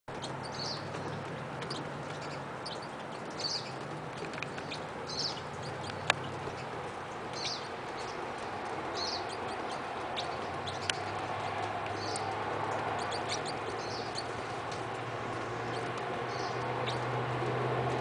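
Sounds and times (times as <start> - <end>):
birds giving high chip calls: 0.1 - 11.2, 11.9 - 17.2.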